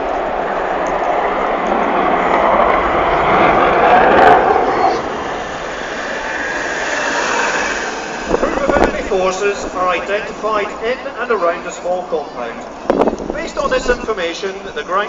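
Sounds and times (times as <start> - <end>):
jet flying past: 0.0 - 15.0.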